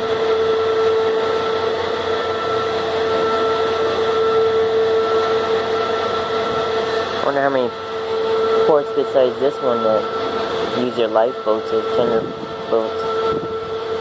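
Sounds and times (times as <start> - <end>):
machinery hum with whine: 0.0 - 14.0.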